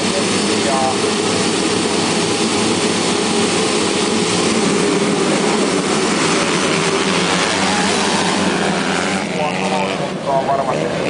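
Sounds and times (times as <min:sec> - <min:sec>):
many motocross engines running: 0:00.0 - 0:11.0.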